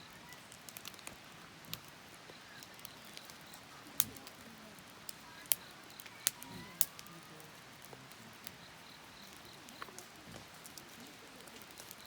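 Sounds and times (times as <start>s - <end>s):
campfire crackling: 0.0s - 12.0s
fire pops: 0.2s - 12.0s.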